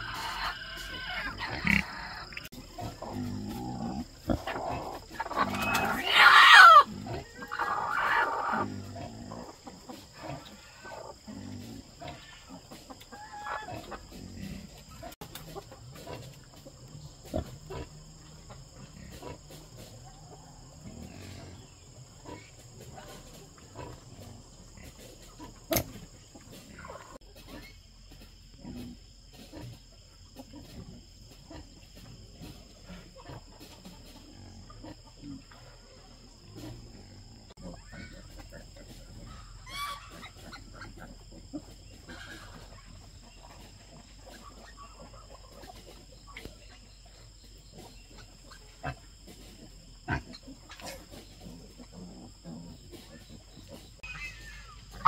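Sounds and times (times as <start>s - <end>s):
farm animal calls: 0.0s - 55.0s.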